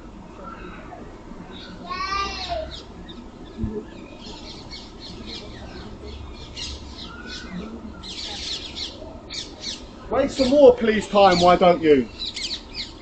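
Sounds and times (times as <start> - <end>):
birds chirping and squawking: 0.4 - 13.0.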